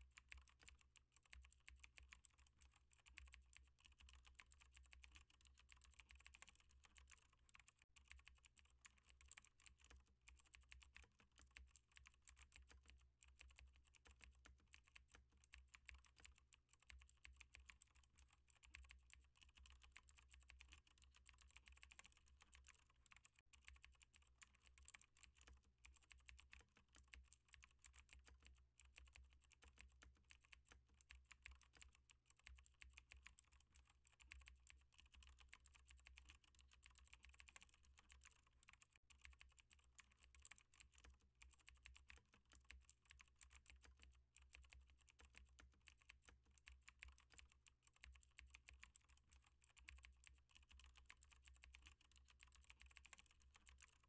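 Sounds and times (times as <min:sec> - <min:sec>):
typing on computer keyboard: 0:00.0 - 0:54.0.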